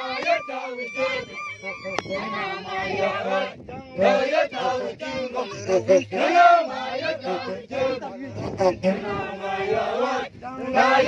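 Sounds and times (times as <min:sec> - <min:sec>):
group chanting and singing: 0:00.0 - 0:11.0.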